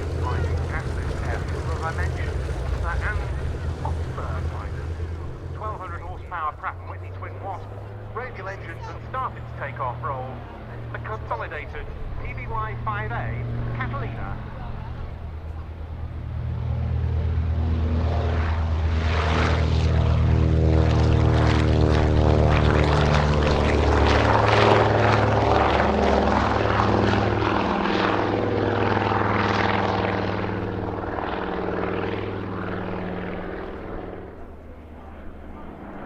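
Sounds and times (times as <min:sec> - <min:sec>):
radial aircraft engines at full power: 0:00.0 - 0:36.0.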